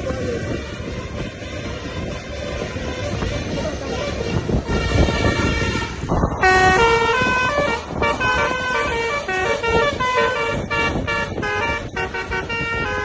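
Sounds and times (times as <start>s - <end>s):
bus rumbling: 0.0s - 13.0s
bus horn playing a tune: 0.2s - 13.0s.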